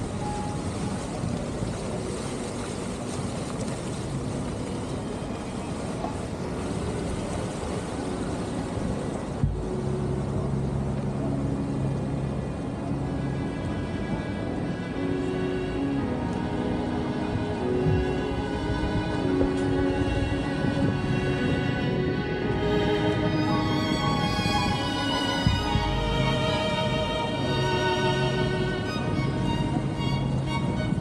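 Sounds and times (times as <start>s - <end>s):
boat engine rumble: 0.0s - 31.0s
soft background music: 0.0s - 31.0s
water rushing: 0.0s - 31.0s.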